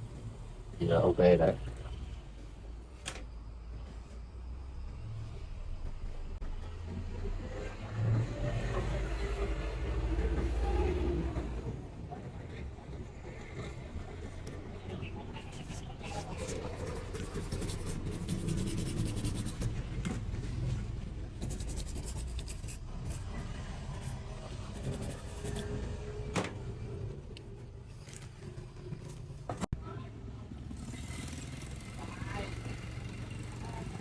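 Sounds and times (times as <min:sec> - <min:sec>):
rumble of motor traffic: 0:00.0 - 0:34.0.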